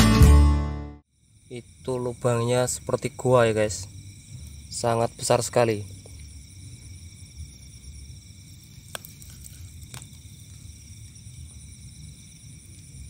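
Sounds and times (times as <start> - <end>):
night insects chorus: 1.0 - 13.0.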